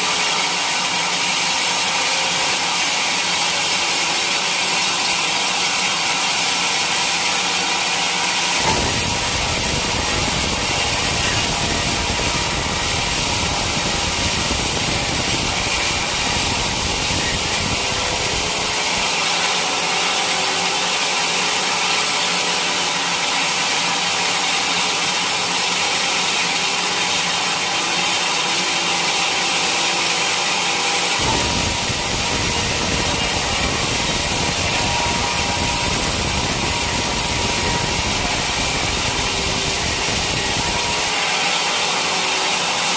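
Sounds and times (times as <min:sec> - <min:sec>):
saw cutting through log: 0:00.0 - 0:42.9.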